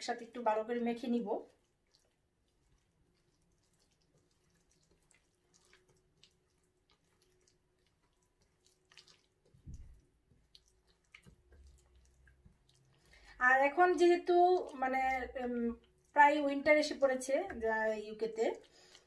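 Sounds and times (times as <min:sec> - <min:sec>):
hand mixing paste in steel bowl: 0:00.0 - 0:19.0.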